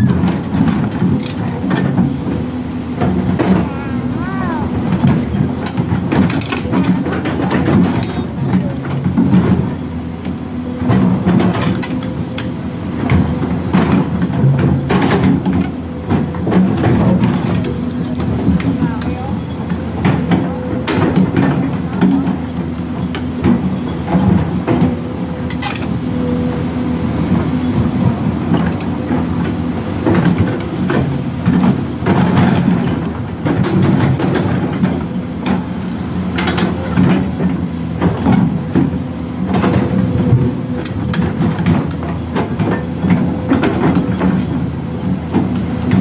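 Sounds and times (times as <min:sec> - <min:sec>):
diesel engine running under load: 0:00.0 - 0:46.0
knocks and clatters of machinery: 0:00.0 - 0:46.0.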